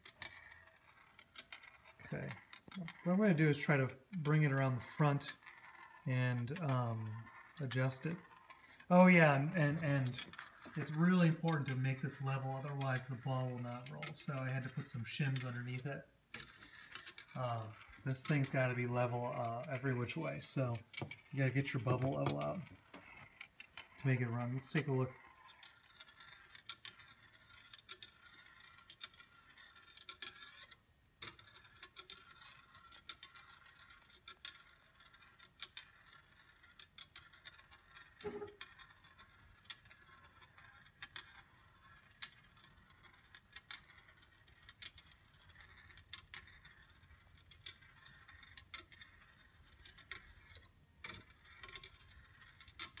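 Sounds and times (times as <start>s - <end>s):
ball rolling in metal grooves: 0.0s - 53.0s.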